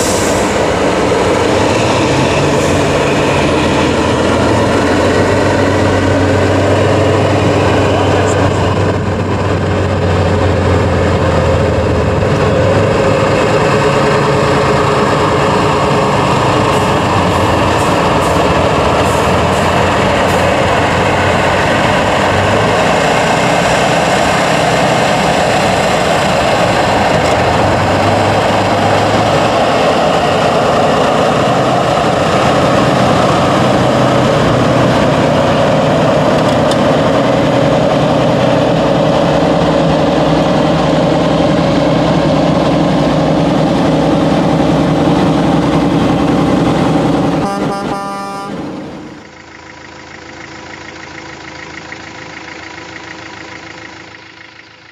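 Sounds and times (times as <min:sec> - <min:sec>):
truck diesel engine under load: 0:00.0 - 0:54.9.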